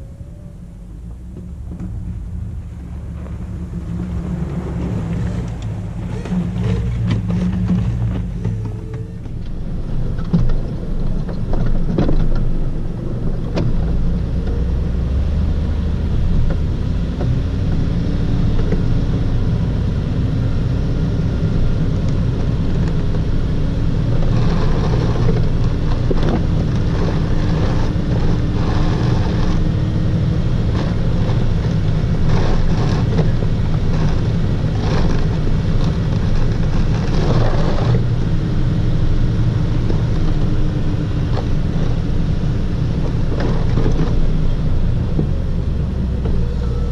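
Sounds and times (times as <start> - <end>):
truck engine running under load: 0.0 - 46.9.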